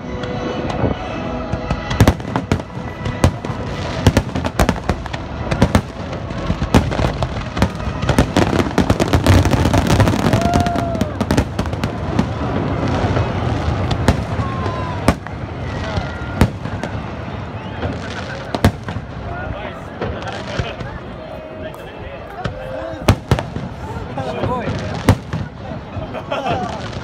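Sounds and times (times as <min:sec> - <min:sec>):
fireworks bursting with sharp bangs: 0:00.0 - 0:27.0.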